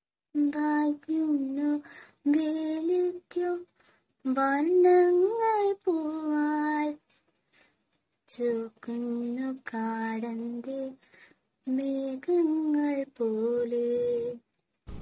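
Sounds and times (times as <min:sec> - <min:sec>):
woman singing unaccompanied: 0:00.3 - 0:07.0, 0:08.3 - 0:11.0, 0:11.6 - 0:14.5.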